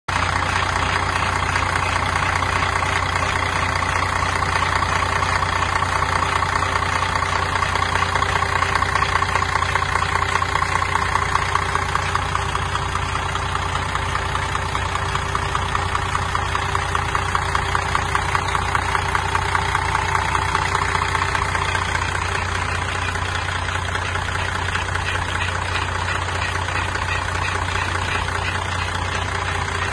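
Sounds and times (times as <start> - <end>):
diesel engine idling: 0.1 - 29.9.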